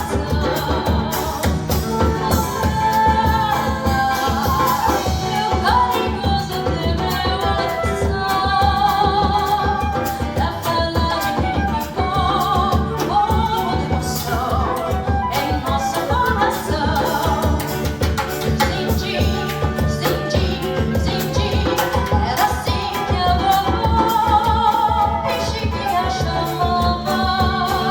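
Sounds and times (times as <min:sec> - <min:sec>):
flute: 0:00.0 - 0:27.9
guitar: 0:00.0 - 0:27.9
percussion beat: 0:00.0 - 0:27.9
woman singing: 0:00.0 - 0:27.9.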